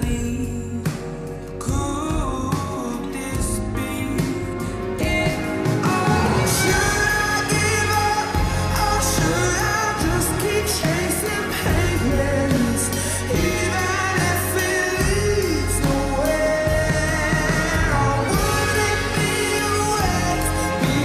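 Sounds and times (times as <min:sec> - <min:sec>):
low bass line: 0:00.0 - 0:21.0
sung vocal melody: 0:00.0 - 0:21.0.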